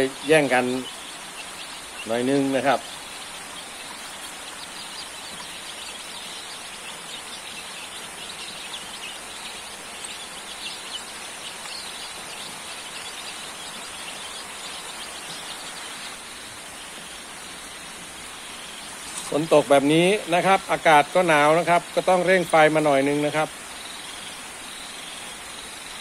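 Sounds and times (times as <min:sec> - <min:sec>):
chicks peeping: 0:00.0 - 0:26.0
light rain hiss: 0:00.0 - 0:26.0.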